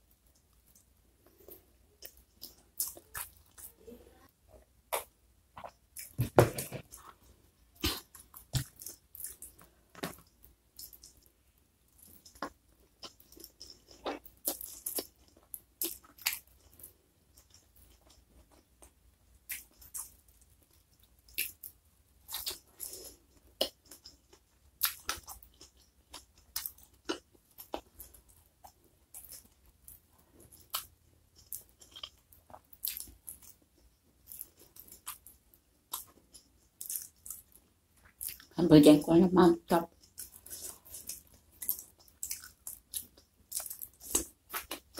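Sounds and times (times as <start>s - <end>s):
wet chewing and crunching: 0.4s - 3.8s, 4.9s - 11.3s, 11.9s - 38.6s, 39.9s - 44.9s.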